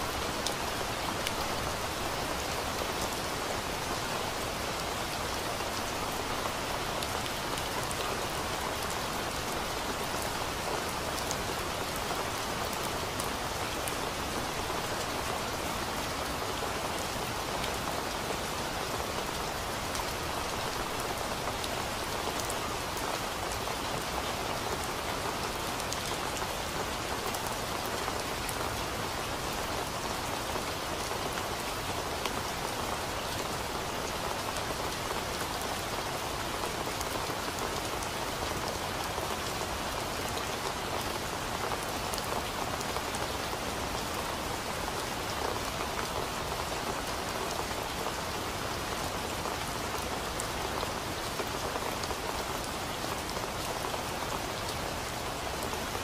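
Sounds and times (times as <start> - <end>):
rain on foliage: 0.0 - 56.0.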